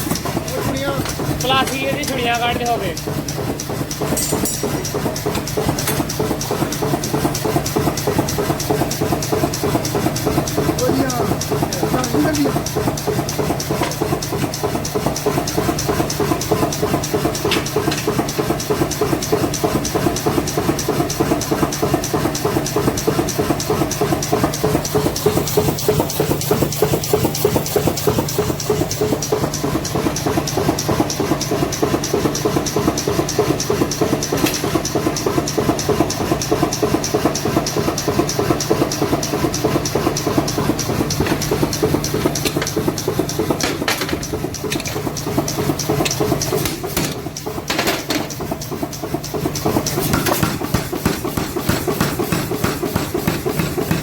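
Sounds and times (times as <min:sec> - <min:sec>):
machine knocking rhythmically: 0:00.0 - 0:54.0.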